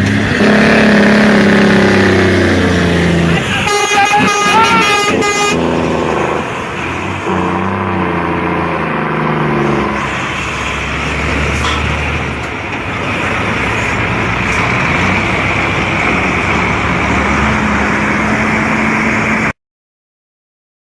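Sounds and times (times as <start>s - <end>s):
road and wind noise: 0.0s - 19.6s.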